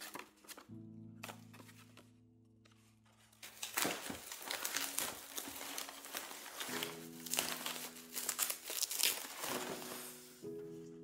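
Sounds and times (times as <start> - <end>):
bubble wrap crinkling: 0.0 - 10.5.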